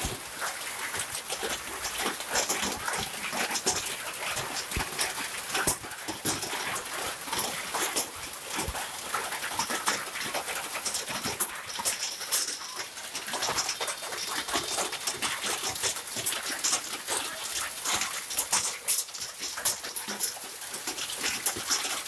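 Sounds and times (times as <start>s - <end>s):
hail clattering on road and vehicles: 0.0s - 22.0s
pouring rain hiss: 0.0s - 22.0s.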